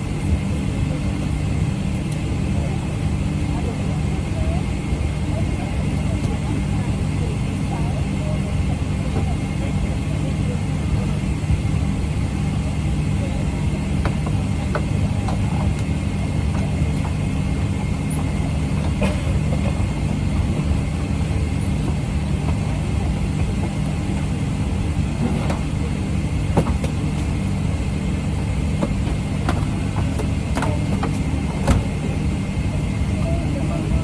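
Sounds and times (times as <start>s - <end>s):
air-conditioning low hum: 0.0s - 34.0s.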